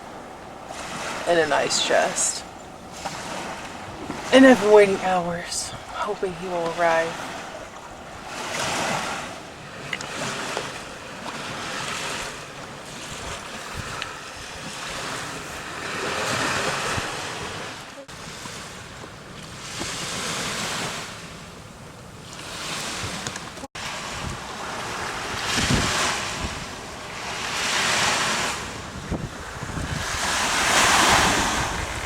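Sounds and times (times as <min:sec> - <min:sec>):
wind on microphone: 0:00.0 - 0:21.4, 0:22.2 - 0:32.0
sea waves breaking on beach: 0:00.0 - 0:32.0.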